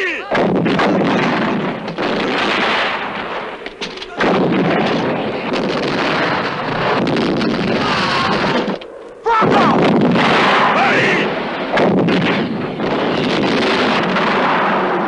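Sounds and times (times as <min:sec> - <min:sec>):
shell explosions: 0:00.0 - 0:15.0
artillery fire: 0:00.3 - 0:15.0.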